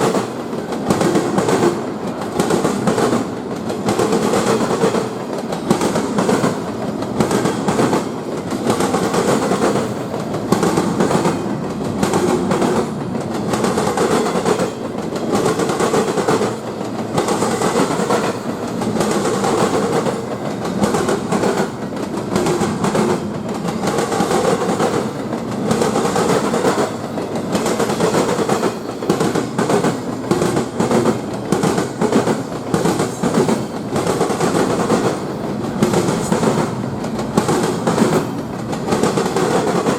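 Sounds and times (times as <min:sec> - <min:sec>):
train wheels clicking over track: 0:00.0 - 0:39.9.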